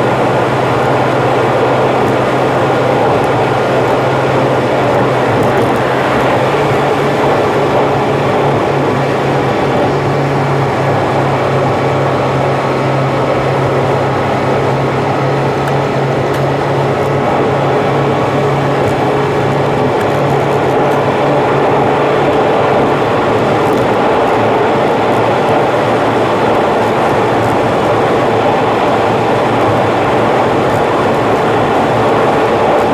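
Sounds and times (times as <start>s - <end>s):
car cruising road noise: 0.0s - 32.9s.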